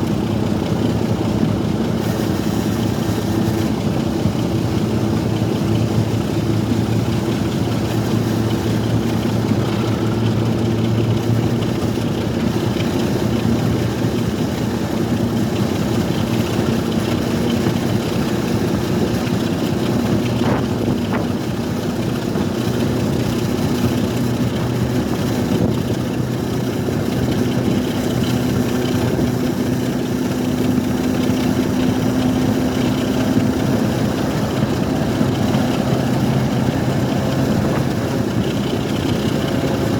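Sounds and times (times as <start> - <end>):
diesel railway engine running: 0.0 - 39.9.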